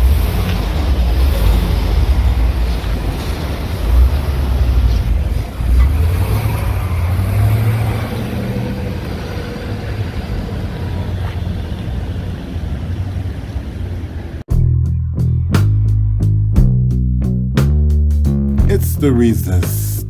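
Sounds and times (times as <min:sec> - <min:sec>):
low rumble of traffic: 0:00.0 - 0:19.9.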